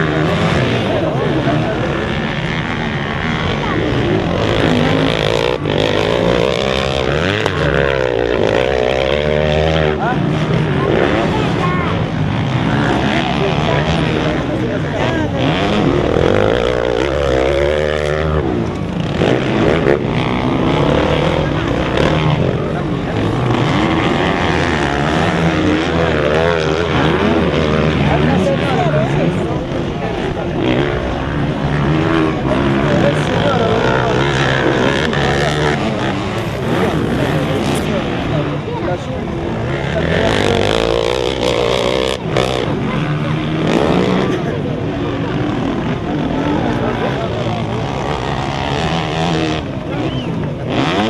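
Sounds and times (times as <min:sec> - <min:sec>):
dirt bike engines revving: 0:00.0 - 0:51.0.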